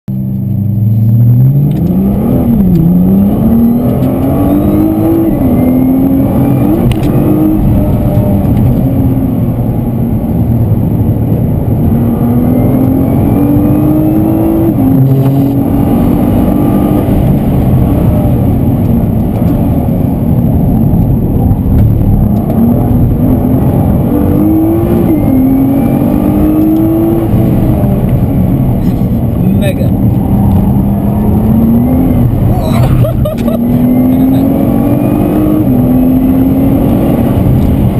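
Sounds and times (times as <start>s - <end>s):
car engine accelerating and upshifting: 0.1s - 37.9s
road noise: 0.1s - 37.9s.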